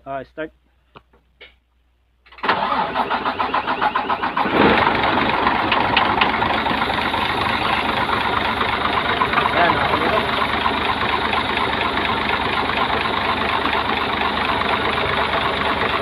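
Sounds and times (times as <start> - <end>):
diesel engine cranking and running: 2.2 - 16.0.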